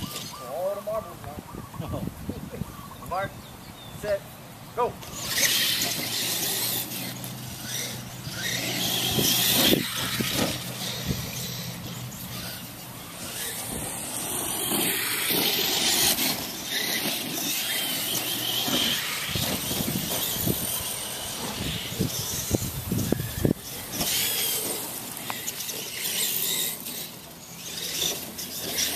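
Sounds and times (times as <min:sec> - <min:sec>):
toy truck electric motors whining: 0:00.0 - 0:00.9, 0:04.9 - 0:28.9.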